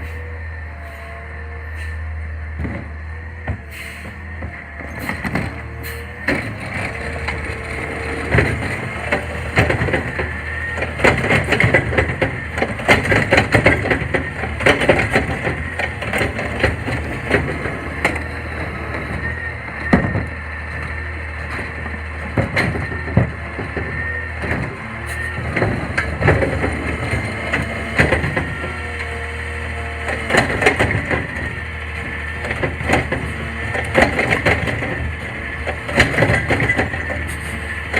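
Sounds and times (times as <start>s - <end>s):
engine hum: 0.0s - 37.9s
garbage truck crushing refuse: 2.5s - 37.9s.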